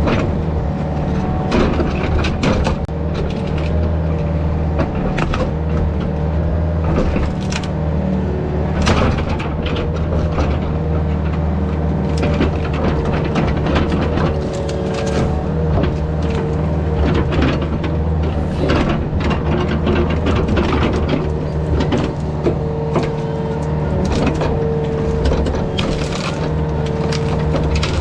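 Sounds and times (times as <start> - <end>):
wood and branches cracking: 0.0 - 7.9, 8.6 - 28.0
excavator diesel engine running: 0.0 - 28.0.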